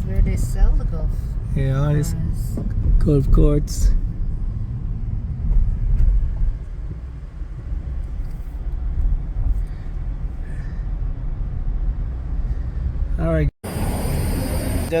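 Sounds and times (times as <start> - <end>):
moving vehicle rumble: 0.0 - 15.0.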